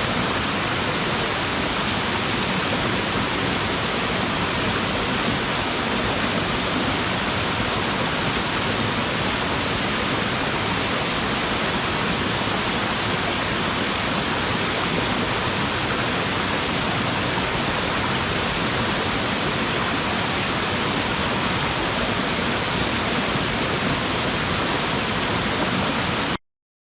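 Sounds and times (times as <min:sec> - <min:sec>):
waterfall rushing: 0:00.0 - 0:26.4.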